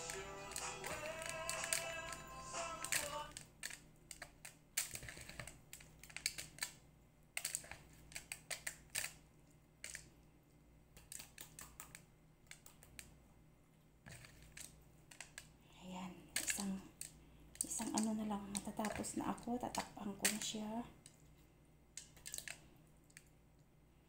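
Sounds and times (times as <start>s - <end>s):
hands stuffing vegetables clicking: 0.0s - 13.2s, 14.1s - 15.6s, 16.3s - 21.3s, 21.9s - 23.7s.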